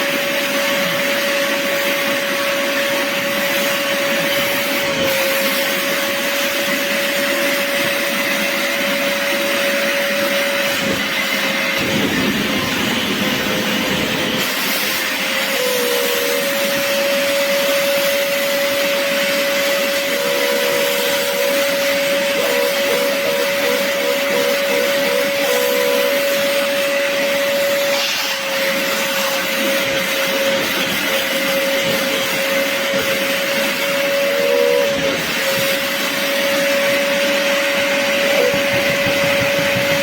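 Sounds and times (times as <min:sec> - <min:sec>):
upholstery cleaner motor whine: 0:00.0 - 0:40.0.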